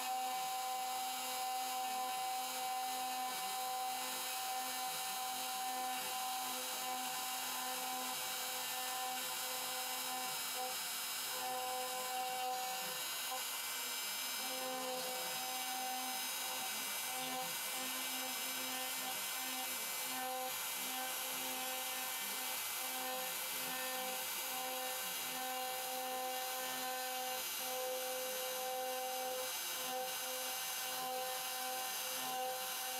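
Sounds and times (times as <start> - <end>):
router spindle whine: 0.0 - 32.9.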